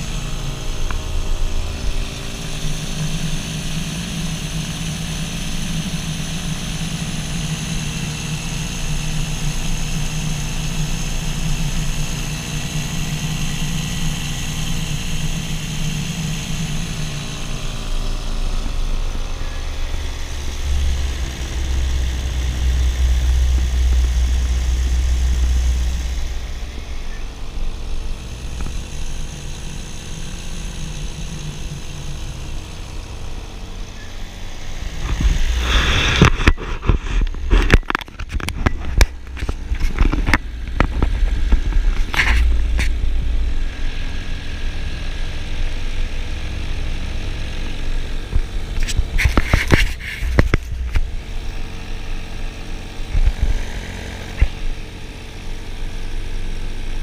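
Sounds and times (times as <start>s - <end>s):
deep rumble: 0.0s - 30.6s, 31.8s - 56.6s
paramotor engine and propeller: 0.0s - 57.0s.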